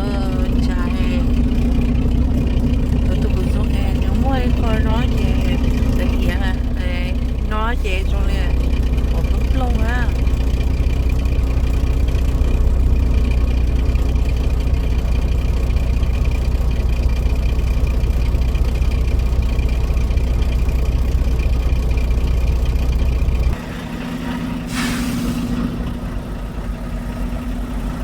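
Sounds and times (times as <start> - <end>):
high constant whine: 0.0 - 24.6
truck engine droning: 0.0 - 28.0.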